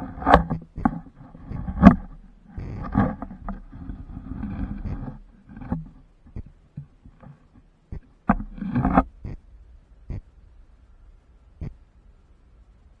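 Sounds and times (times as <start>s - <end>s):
muffled underwater rumble: 0.0s - 12.9s.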